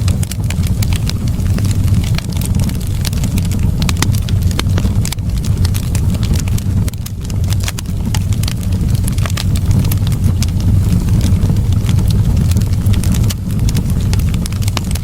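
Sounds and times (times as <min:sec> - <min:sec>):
fire crackles and pops: 0:00.0 - 0:15.0
fire rumbling in fireplace: 0:00.0 - 0:15.0.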